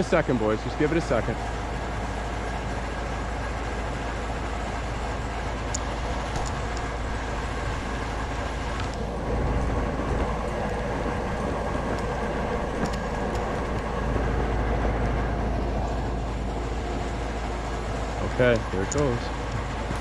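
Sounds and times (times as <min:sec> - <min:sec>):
low constant rumble: 0:00.0 - 0:20.0
small engine running: 0:00.0 - 0:20.0.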